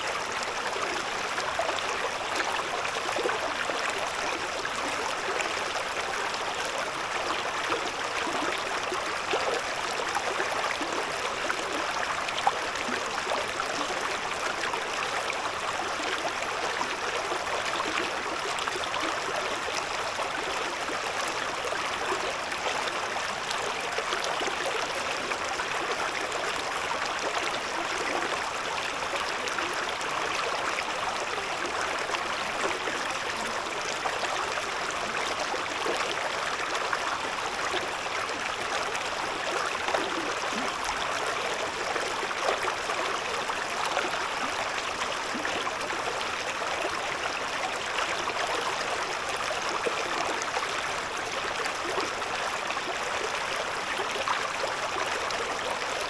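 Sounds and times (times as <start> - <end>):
river babbling over stones: 0.0 - 56.0.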